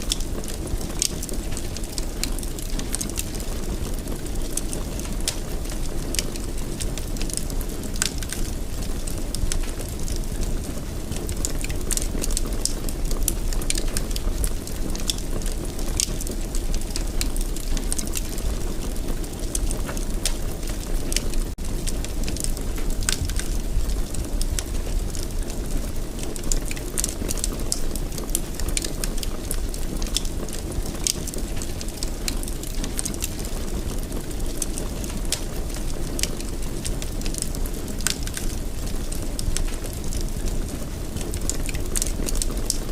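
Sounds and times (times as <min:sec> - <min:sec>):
low fire rumble: 0:00.0 - 0:42.9
wood fire crackling and popping: 0:00.0 - 0:42.9.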